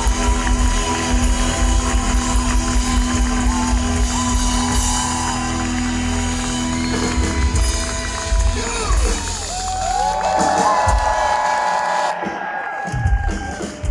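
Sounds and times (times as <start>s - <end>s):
heavy metal band playing live: 0.0s - 12.0s
drums: 0.0s - 13.9s.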